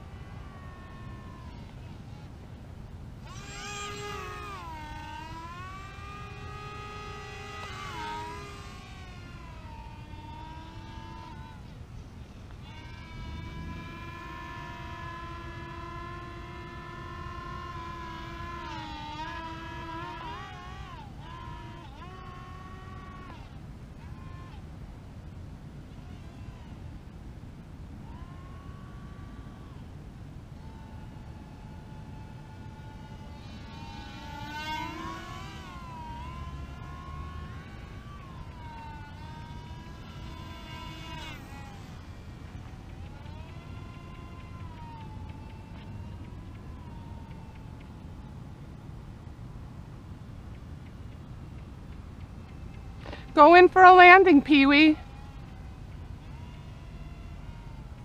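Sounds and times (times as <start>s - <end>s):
model plane motors whining: 0.0s - 58.0s.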